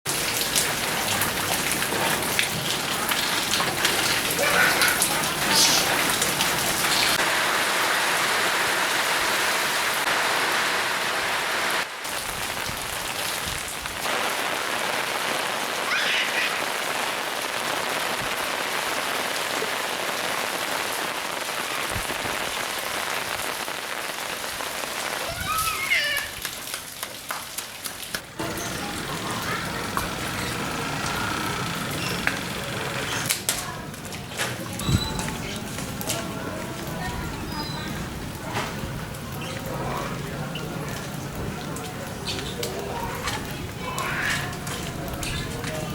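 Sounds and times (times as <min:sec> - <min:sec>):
heavy rain on ground: 0:00.0 - 0:45.9.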